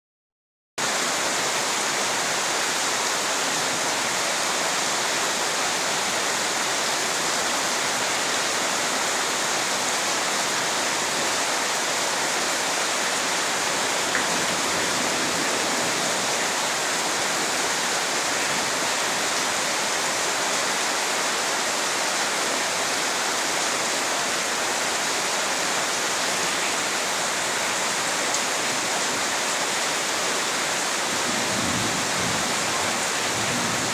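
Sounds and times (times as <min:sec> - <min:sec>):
heavy rain falling: 0:00.8 - 0:33.9.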